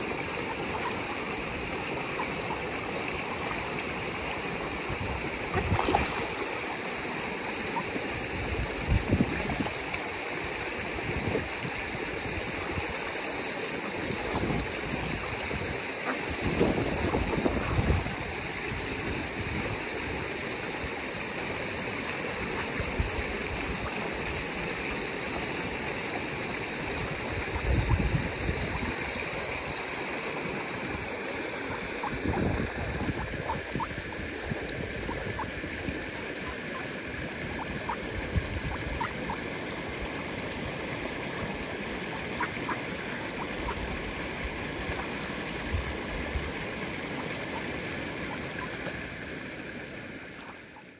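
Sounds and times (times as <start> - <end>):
river water rushing over rocks: 0.0 - 50.8.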